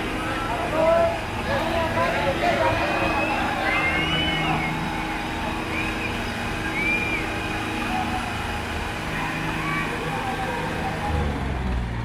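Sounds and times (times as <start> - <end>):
crowd shouting: 0.0 - 11.6
diesel tractor engines under load: 0.0 - 12.0.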